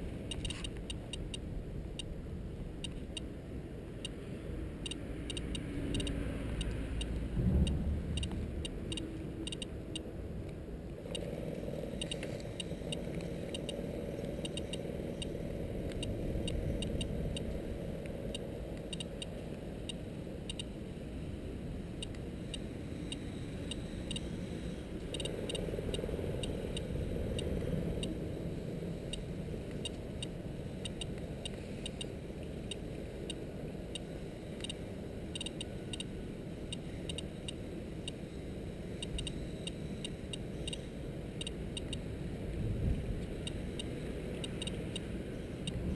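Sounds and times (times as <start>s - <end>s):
steady low rumble: 0.0s - 45.9s
geiger counter clicking: 0.3s - 2.1s, 4.8s - 10.1s, 11.0s - 20.8s, 22.0s - 24.3s, 25.0s - 28.2s, 29.1s - 38.2s, 39.0s - 42.1s, 43.3s - 45.9s.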